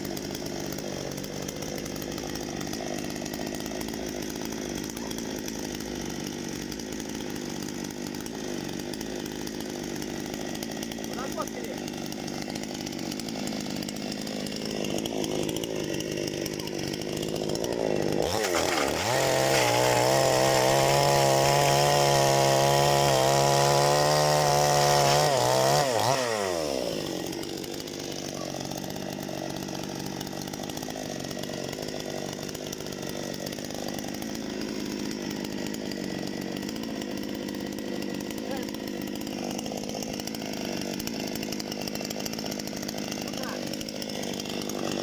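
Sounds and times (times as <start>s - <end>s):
chainsaw idling and revving: 0.0s - 45.0s.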